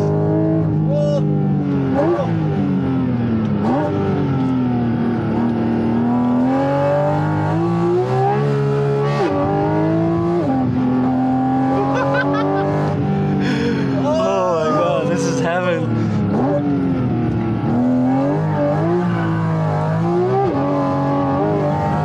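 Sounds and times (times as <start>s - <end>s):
car engine revving through gears: 0.0s - 14.0s, 14.7s - 22.0s.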